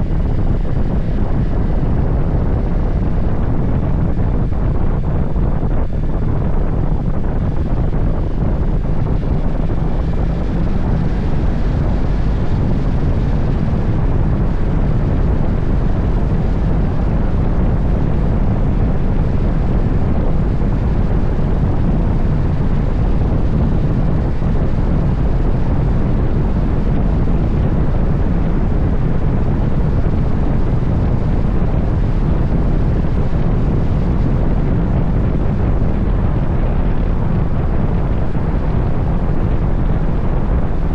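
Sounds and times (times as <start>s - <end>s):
motorcycle road and engine rumble: 0.0s - 40.9s
wind buffeting microphone: 0.0s - 40.9s.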